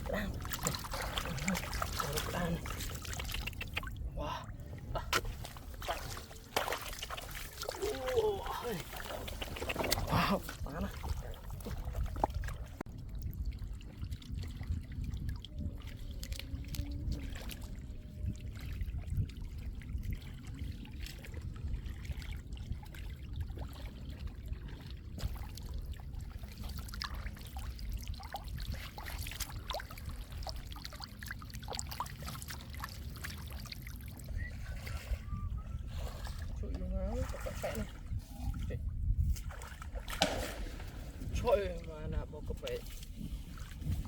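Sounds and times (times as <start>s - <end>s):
floodwater trickling and splashing: 0.0s - 44.0s.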